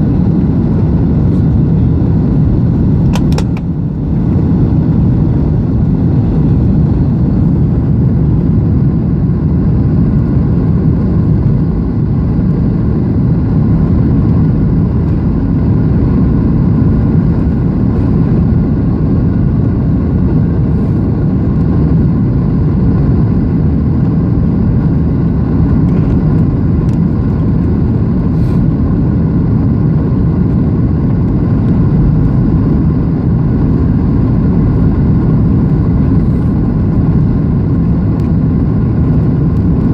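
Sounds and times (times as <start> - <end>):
jet engines humming: 0.0 - 39.9.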